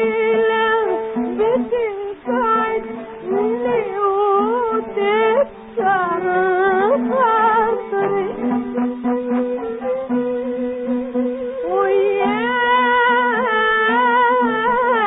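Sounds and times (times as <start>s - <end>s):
oud: 0.0s - 15.0s
woman singing melismatic melody: 0.0s - 15.0s.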